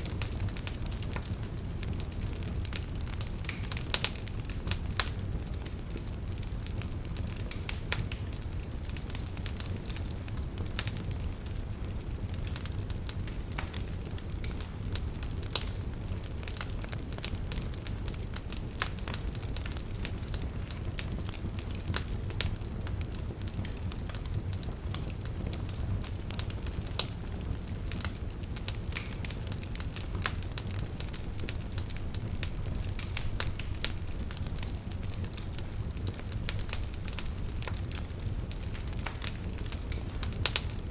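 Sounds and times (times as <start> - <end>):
fire crackling and popping: 0.0 - 40.9
fire flames rumbling: 0.0 - 40.9.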